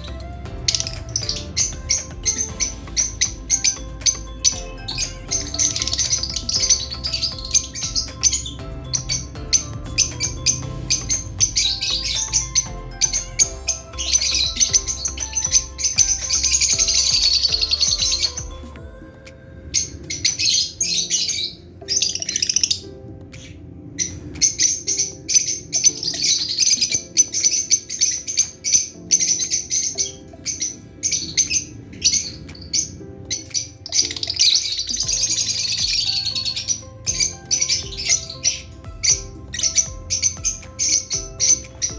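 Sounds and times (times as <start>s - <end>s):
lovebirds chattering: 0.0s - 18.7s, 19.8s - 41.9s.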